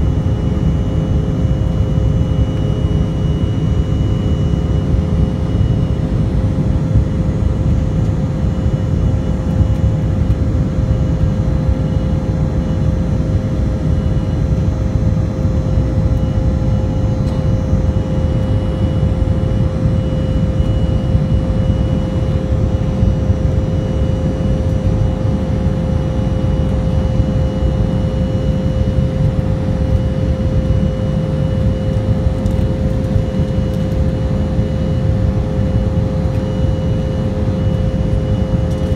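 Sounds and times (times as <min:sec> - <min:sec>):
jet cabin engine rumble: 0:00.0 - 0:38.9
mid-pitched hum: 0:00.0 - 0:38.9.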